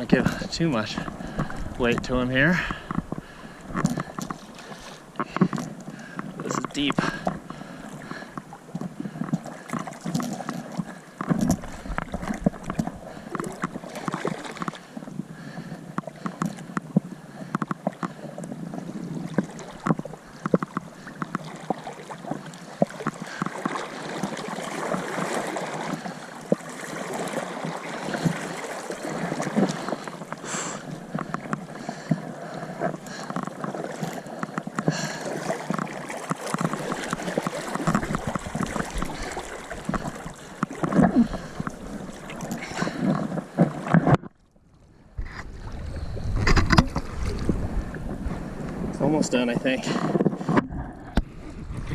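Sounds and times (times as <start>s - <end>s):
river water sloshing and splashing: 0.0s - 51.9s.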